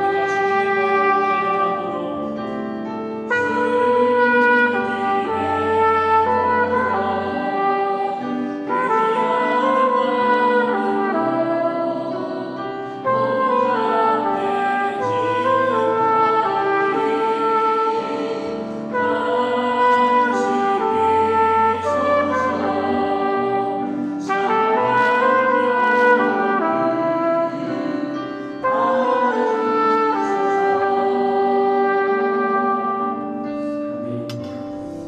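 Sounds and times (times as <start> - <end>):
lower accompaniment: 0.0 - 35.0
trumpet playing hymn melody: 0.0 - 35.0.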